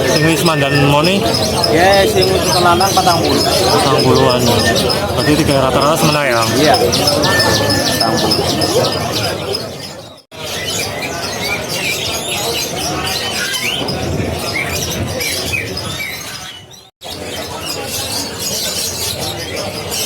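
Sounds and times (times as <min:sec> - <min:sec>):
songbirds chirping and whistling: 0:00.0 - 0:20.0
steady background noise: 0:00.0 - 0:20.0.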